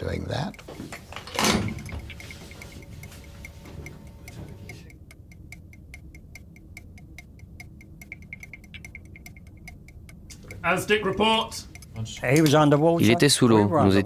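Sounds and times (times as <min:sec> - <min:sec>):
fast mechanical ticking: 0:00.0 - 0:13.1.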